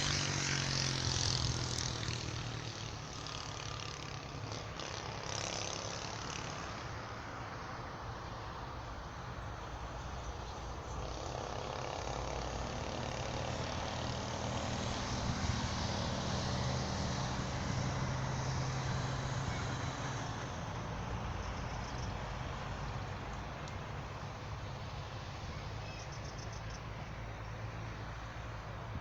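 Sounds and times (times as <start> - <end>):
road noise: 0.0 - 29.0
vehicle engine hum: 0.0 - 29.0.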